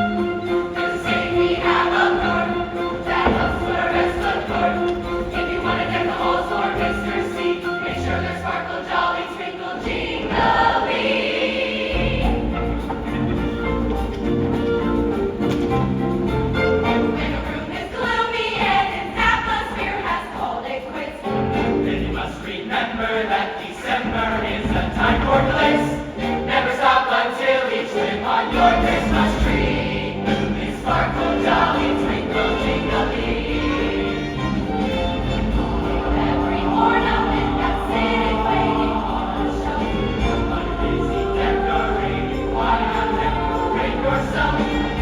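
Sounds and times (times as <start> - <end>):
backing accompaniment: 0.0 - 45.0
choir singing: 0.0 - 45.0.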